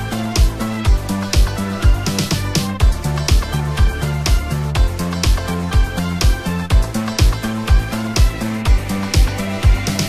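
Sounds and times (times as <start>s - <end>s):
bass line: 0.0s - 10.0s
kick drum: 0.0s - 10.0s.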